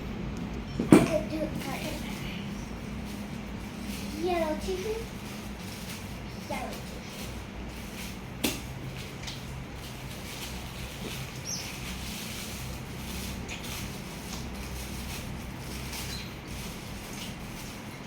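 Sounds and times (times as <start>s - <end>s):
low steady hum: 0.0s - 18.0s
tissue paper rustling and crinkling: 1.1s - 18.0s.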